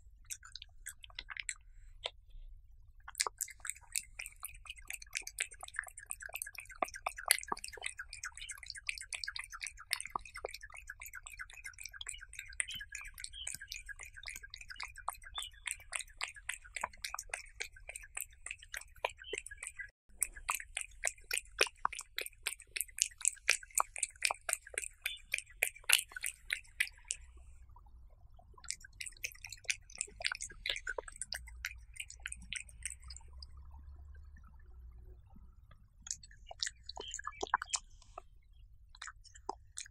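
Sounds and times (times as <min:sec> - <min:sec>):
cat chewing wetly: 0:00.0 - 0:02.3, 0:03.0 - 0:27.7, 0:28.5 - 0:33.6, 0:36.0 - 0:39.9.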